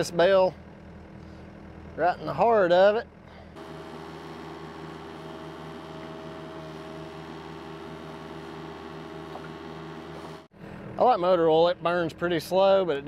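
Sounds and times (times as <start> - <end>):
diesel engine idling: 0.0 - 11.7.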